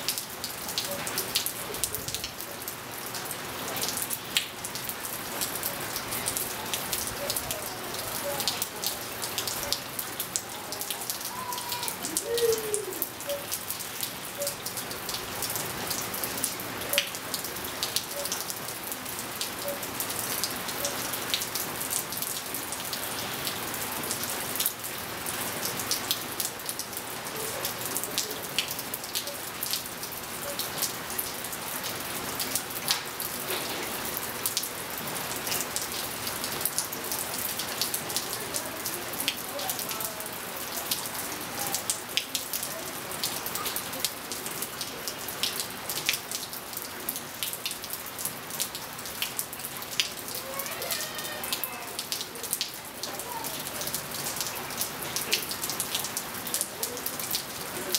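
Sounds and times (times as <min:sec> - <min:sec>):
rain falling on pool and patio: 0:00.0 - 0:57.9
ticks of raindrops: 0:00.0 - 0:57.9.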